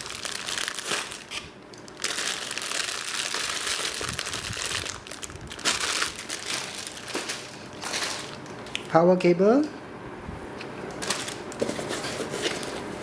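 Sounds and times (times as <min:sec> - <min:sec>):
plastic packaging crinkling: 0:00.0 - 0:09.0, 0:10.8 - 0:13.0.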